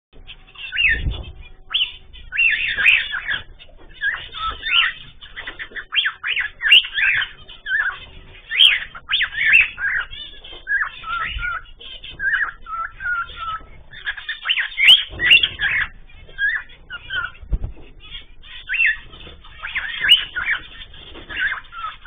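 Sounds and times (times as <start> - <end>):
cage birds chirping: 0.2 - 22.0.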